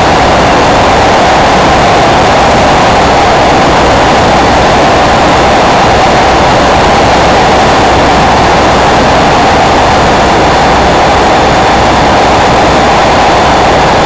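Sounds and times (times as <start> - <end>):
engine and wind noise: 0.0 - 14.0.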